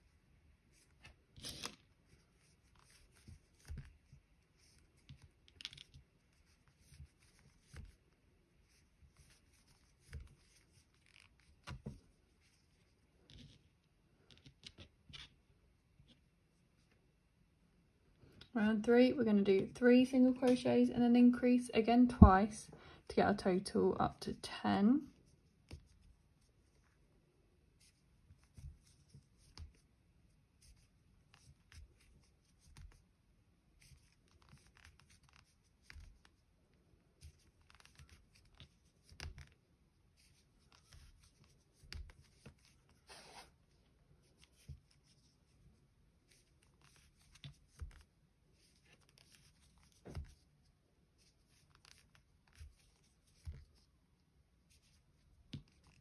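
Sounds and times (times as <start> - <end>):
crochet hook rustling yarn: 0.0 - 17.3, 18.1 - 22.5, 23.4 - 56.0.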